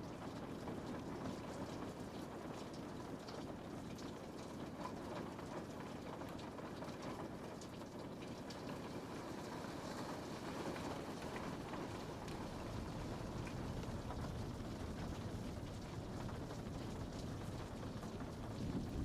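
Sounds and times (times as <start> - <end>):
rain on a window pane: 0.0 - 19.0.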